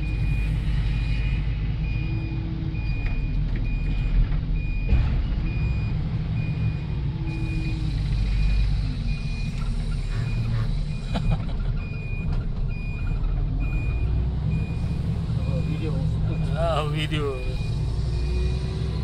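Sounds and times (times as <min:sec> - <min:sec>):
diesel engine rumble: 0:00.0 - 0:19.0
warning alarm beeping: 0:00.0 - 0:19.0.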